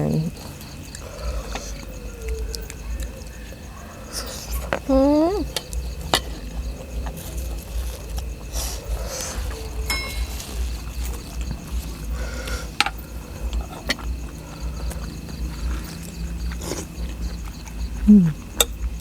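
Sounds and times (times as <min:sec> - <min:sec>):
chewing and mouth noises: 0:00.2 - 0:19.0.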